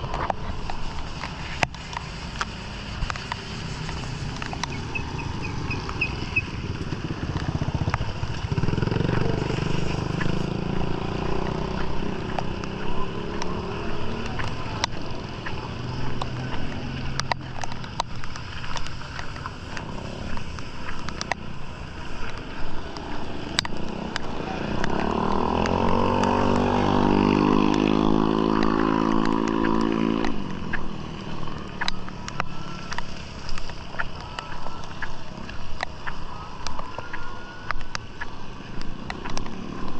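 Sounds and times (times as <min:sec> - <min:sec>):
motorcycles passing: 0:00.0 - 0:39.9.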